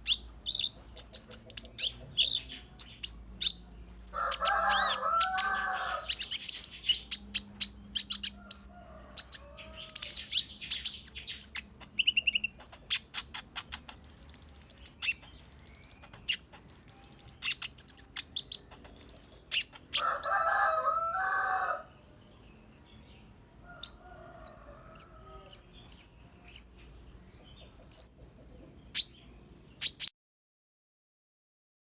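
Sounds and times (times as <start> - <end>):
sunbird singing high chirps: 0.0 - 27.0, 27.6 - 28.2, 28.8 - 30.1.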